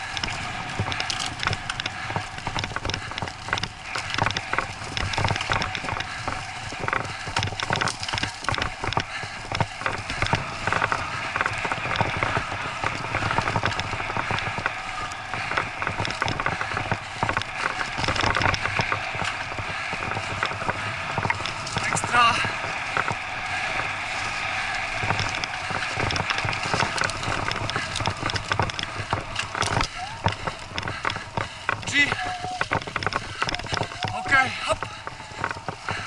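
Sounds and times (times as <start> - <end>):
bicycle tyres rolling on dirt: 0.0 - 36.0
bike rattling and knocking: 0.0 - 36.0.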